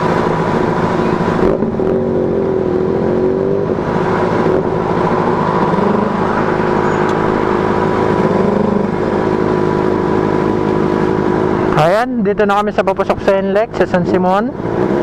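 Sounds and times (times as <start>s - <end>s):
motorcycle engine riding: 0.0s - 15.0s.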